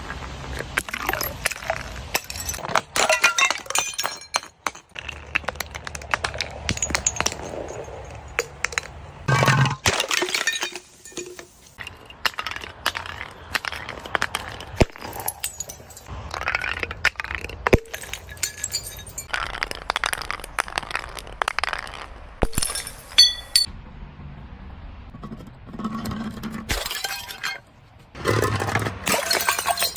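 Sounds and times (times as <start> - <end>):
glass breaking and crunching: 0.8 - 23.7, 26.7 - 27.6, 28.5 - 29.9.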